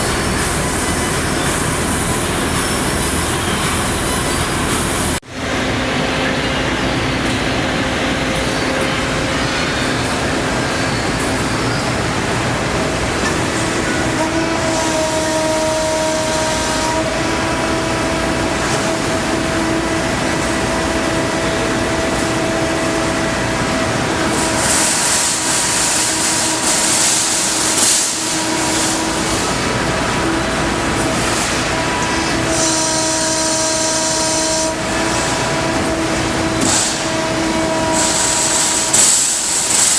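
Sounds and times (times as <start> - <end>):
laser cutter machine drone: 0.0 - 39.9.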